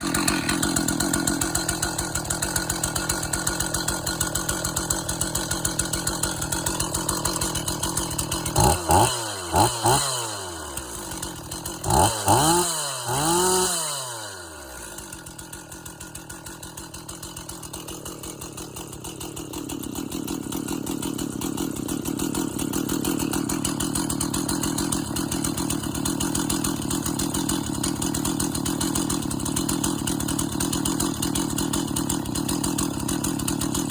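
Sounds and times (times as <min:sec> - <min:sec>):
chainsaw idling and revving: 0:00.0 - 0:33.9.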